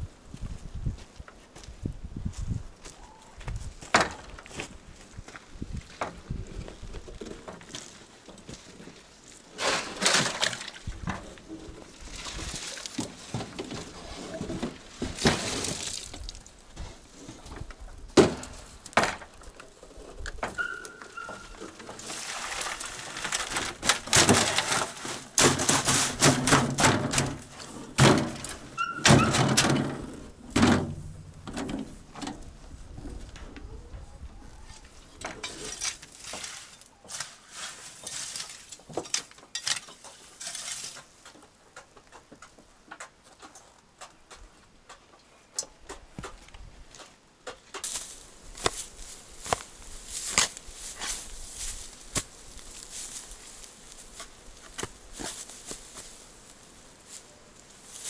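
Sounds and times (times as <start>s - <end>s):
rustling: 2.9s - 17.8s, 18.5s - 41.5s, 46.2s - 58.0s.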